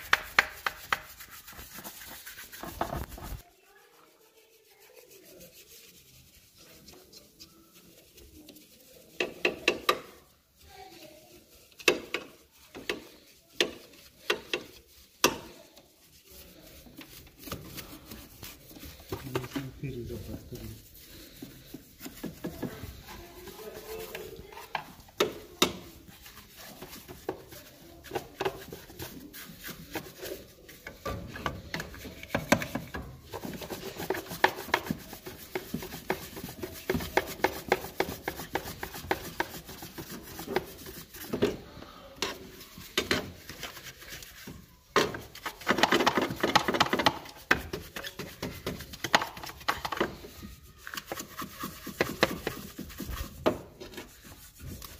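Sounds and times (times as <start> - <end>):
brush scrubbing: 0.0 - 54.9.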